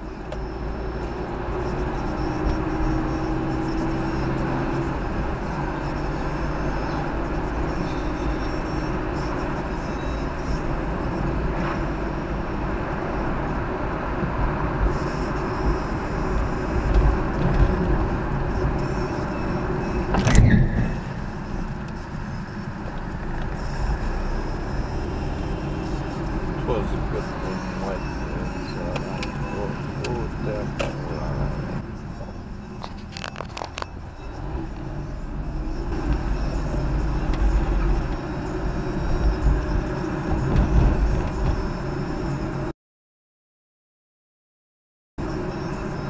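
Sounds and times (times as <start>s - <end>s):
car engine and tyre rumble: 0.0s - 42.7s, 45.2s - 46.0s.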